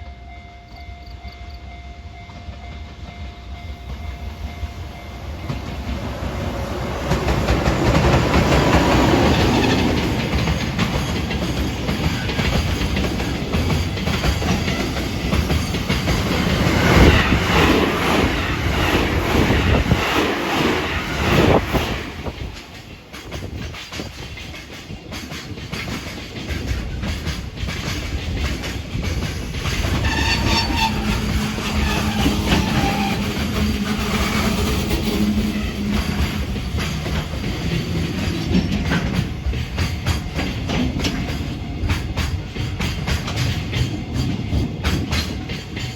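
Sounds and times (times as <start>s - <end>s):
freight train wheels clicking: 0.7s - 45.9s.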